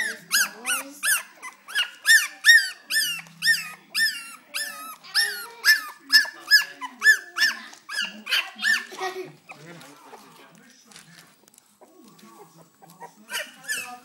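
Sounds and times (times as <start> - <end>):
puppies whining: 0.0 - 10.4, 11.6 - 14.0.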